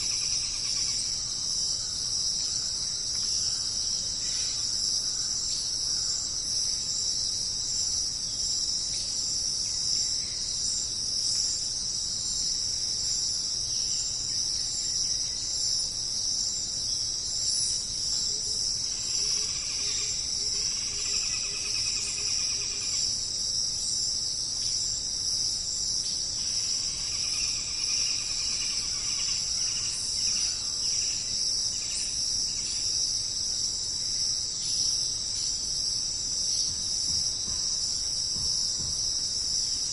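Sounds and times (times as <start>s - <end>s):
chorus of crickets: 0.0s - 39.9s.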